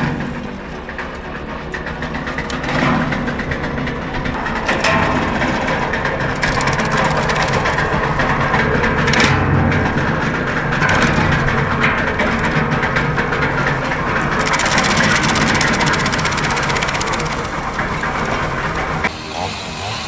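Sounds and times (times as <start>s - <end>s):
branches crackling in shredder: 0.0s - 20.0s
shredder engine hum: 0.0s - 20.0s.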